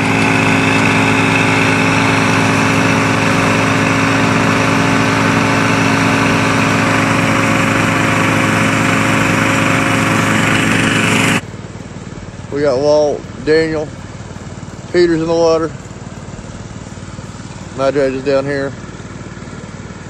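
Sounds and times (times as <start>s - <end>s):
dredge engines droning: 0.0s - 20.0s.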